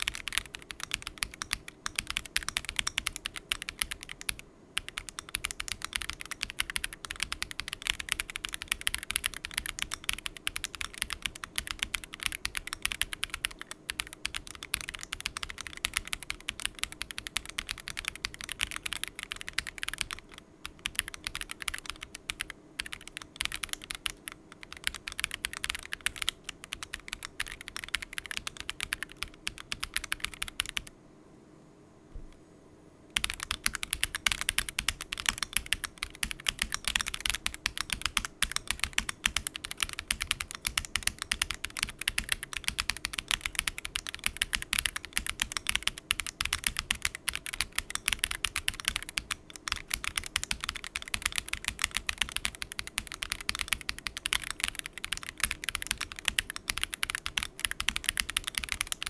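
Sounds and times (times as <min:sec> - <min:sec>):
mechanical keyboard typing: 0:00.0 - 0:30.9, 0:33.2 - 0:59.0.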